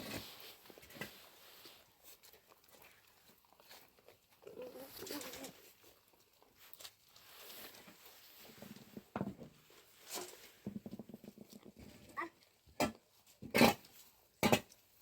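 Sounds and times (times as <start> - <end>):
goat hooves tapping and shuffling: 0.0 - 15.0.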